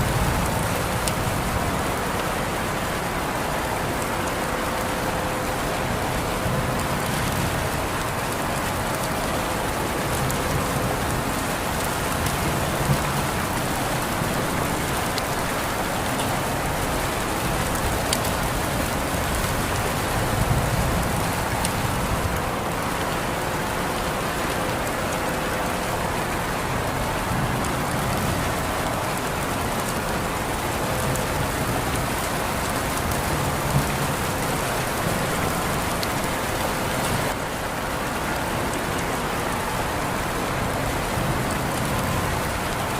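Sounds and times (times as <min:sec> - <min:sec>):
raindrops ticking: 0:00.0 - 0:42.9
steady rain hiss: 0:00.0 - 0:42.9.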